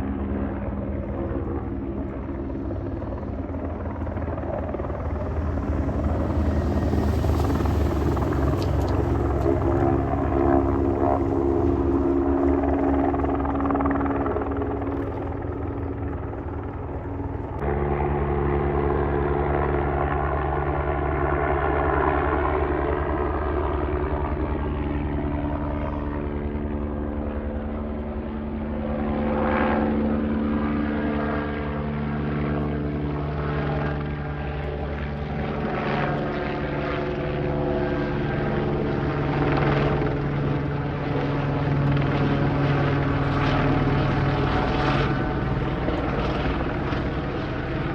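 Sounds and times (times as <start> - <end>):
helicopter turbine and rotor drone: 0.0 - 47.9.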